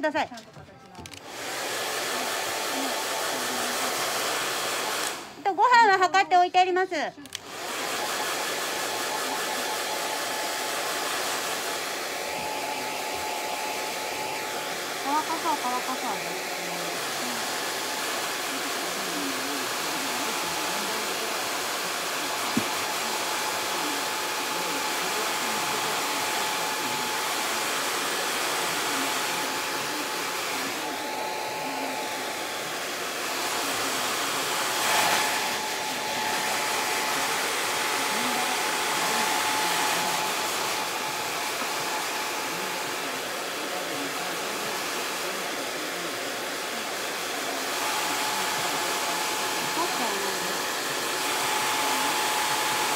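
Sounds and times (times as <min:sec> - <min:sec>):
hair dryer blowing: 0:00.0 - 0:52.9.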